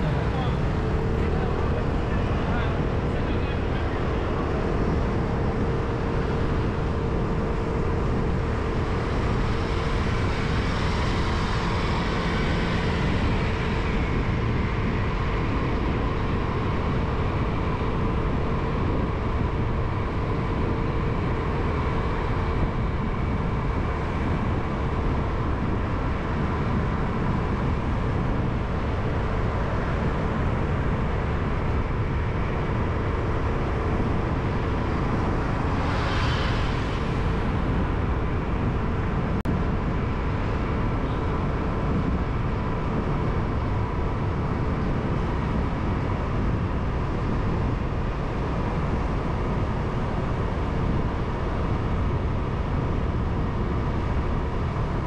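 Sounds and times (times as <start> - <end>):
city traffic noise: 0.0 - 55.0
low hum: 0.0 - 55.0.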